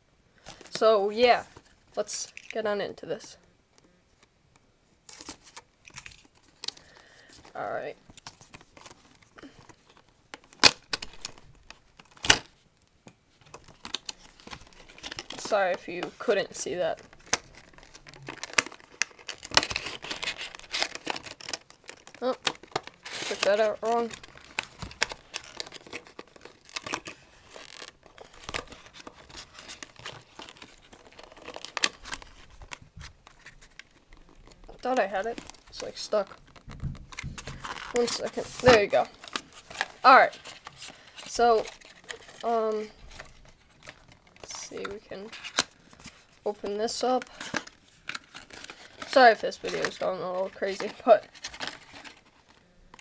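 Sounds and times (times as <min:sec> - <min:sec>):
plastic packaging crinkling: 0:05.1 - 0:12.6, 0:13.3 - 0:53.0.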